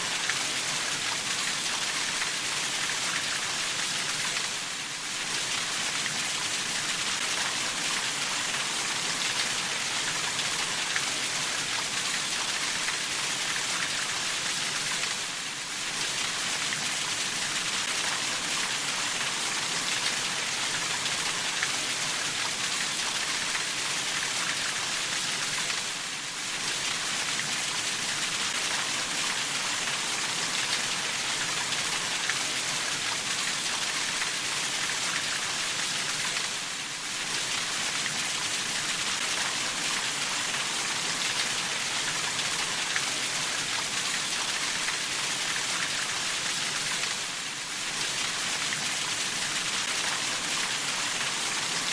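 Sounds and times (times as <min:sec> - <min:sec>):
steady rainfall: 0:00.0 - 0:51.9.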